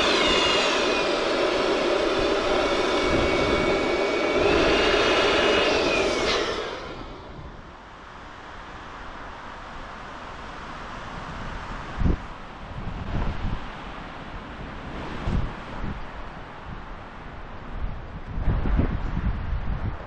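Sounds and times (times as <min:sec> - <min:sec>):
aircraft engine passing overhead: 0:00.0 - 0:18.9
wind noise: 0:00.0 - 0:20.0.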